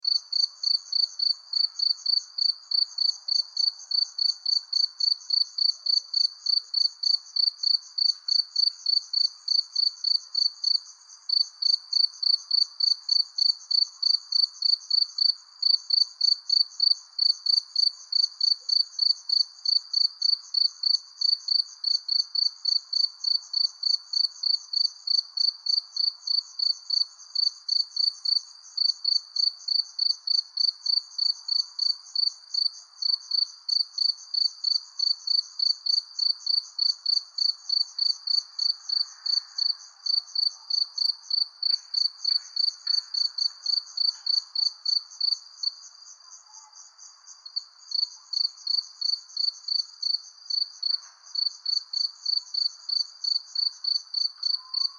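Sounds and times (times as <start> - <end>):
cricket chirping: 0.0 - 54.9.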